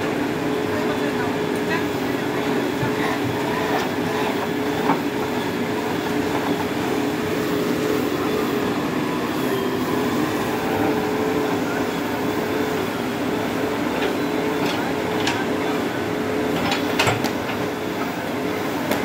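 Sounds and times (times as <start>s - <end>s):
backhoe diesel engine humming: 0.0s - 19.0s.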